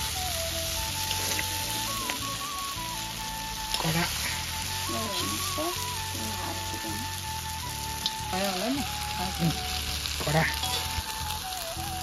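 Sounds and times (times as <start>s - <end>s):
background music: 0.0s - 12.0s
food frying sizzle: 0.0s - 12.0s.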